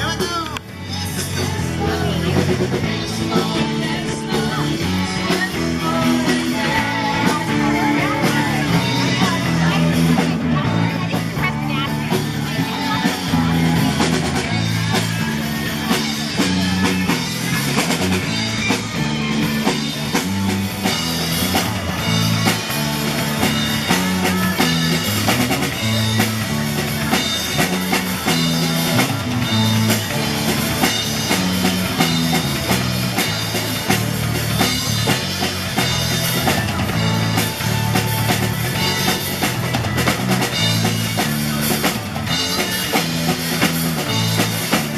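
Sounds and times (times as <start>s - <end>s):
bass line: 0.0s - 44.9s
drum kit: 0.0s - 44.9s
electric guitar: 0.0s - 44.9s.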